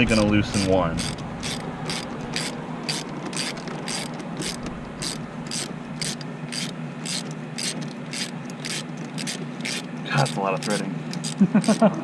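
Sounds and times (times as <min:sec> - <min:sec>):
steady low hum: 0:00.0 - 0:12.0
hand ratchet clicking: 0:00.1 - 0:11.9.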